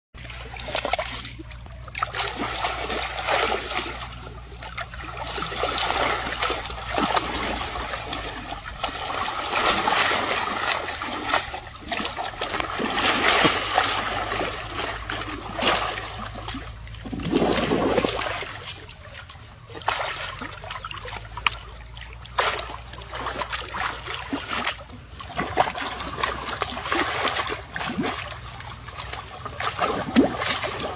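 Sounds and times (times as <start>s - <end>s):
water splashing and sloshing: 0.2s - 30.9s.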